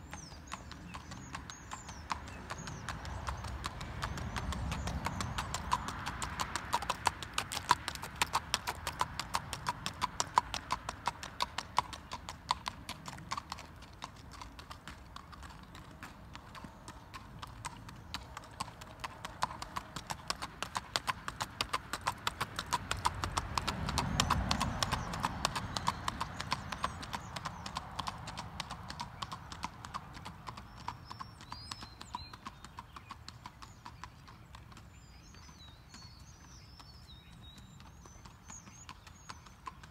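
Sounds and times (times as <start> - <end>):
horse hoofbeats clip-clop: 0.0 - 39.9.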